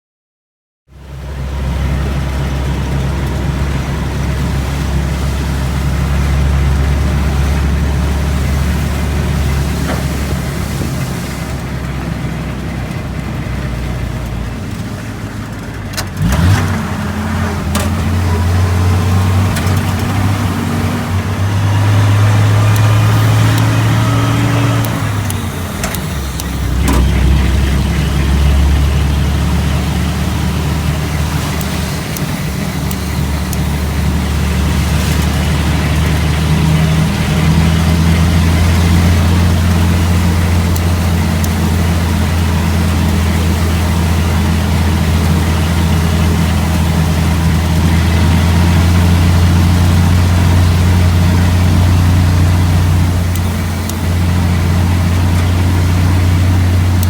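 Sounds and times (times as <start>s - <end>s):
truck engine running: 0.9s - 57.0s.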